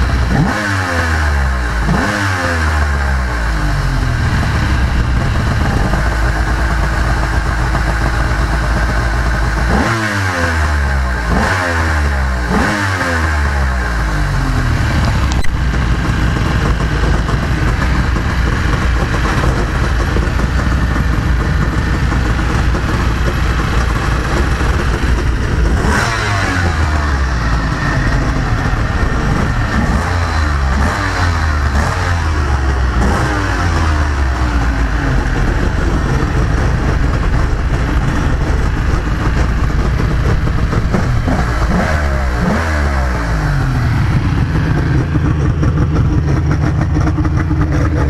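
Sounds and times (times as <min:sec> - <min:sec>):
engine throttle blips: 0:00.0 - 0:48.0
boat engines idling: 0:02.9 - 0:09.8, 0:13.7 - 0:26.0, 0:26.6 - 0:33.0, 0:34.1 - 0:42.4, 0:43.1 - 0:48.0.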